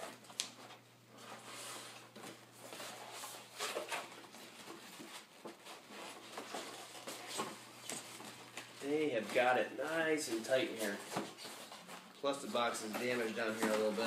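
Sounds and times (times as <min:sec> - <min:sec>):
cardboard boxes scraping and rustling: 0:01.2 - 0:14.0.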